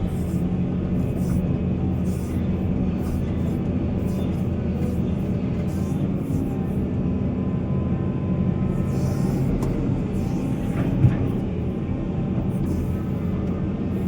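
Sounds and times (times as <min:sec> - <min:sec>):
diesel machinery rumbling: 0:00.0 - 0:14.0.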